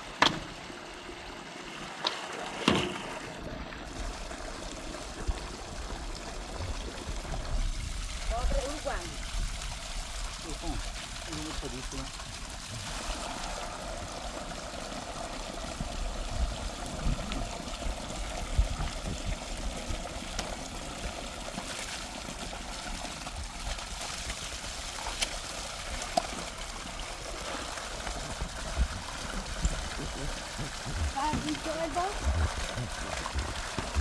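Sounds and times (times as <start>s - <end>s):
water trickling: 3.9s - 34.0s.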